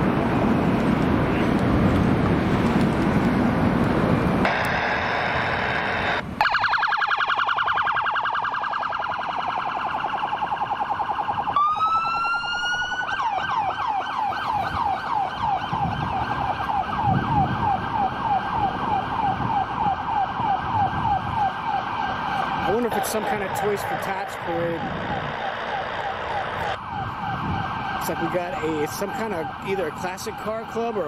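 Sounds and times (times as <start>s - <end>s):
police car siren: 4.0s - 31.0s.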